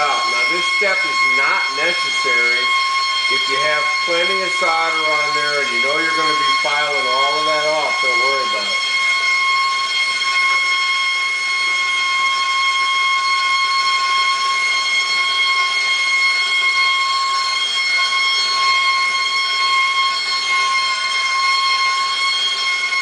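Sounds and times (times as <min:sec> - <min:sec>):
high-pitched whistle: 0:00.0 - 0:23.0.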